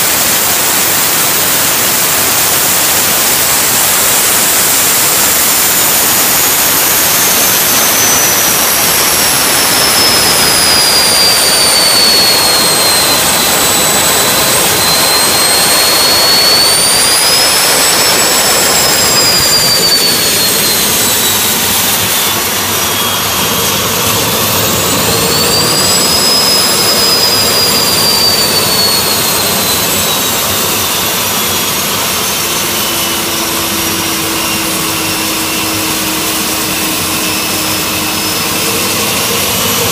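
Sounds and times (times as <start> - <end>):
gas turbine roaring and whining: 0.0 - 39.9.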